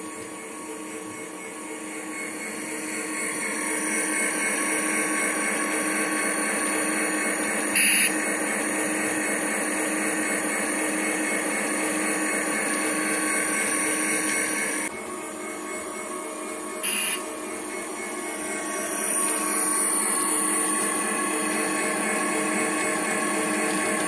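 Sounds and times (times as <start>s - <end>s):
model train motor hum: 1.1s - 24.0s.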